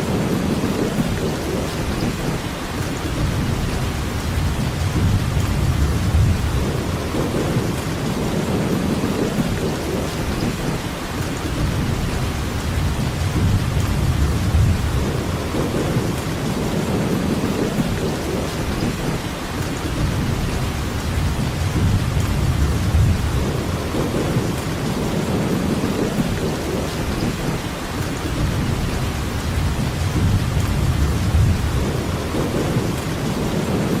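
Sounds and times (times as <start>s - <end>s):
heavy rain: 0.0s - 34.0s
rolling thunder: 0.0s - 34.0s.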